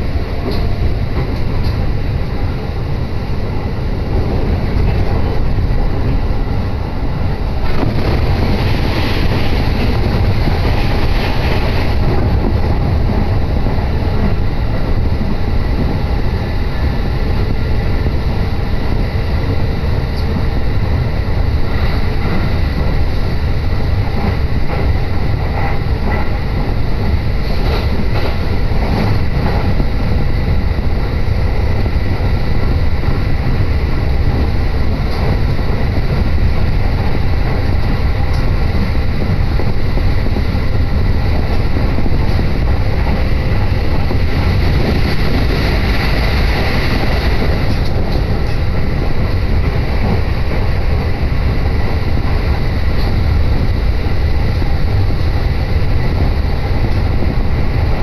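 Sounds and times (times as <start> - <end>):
low rumble of train running: 0.0 - 58.0.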